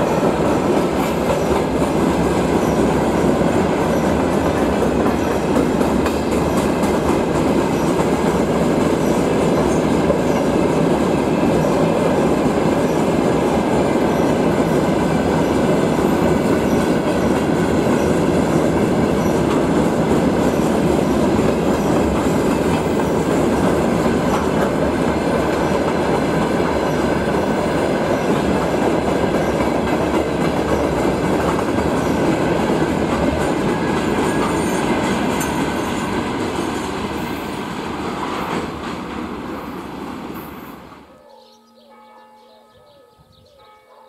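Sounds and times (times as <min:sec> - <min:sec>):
freight train wheels on rails: 0:00.0 - 0:41.1.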